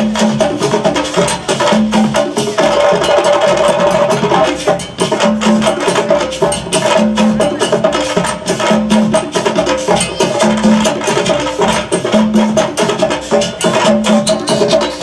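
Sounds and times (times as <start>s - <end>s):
drums: 0.0s - 15.0s
wood block: 0.0s - 15.0s.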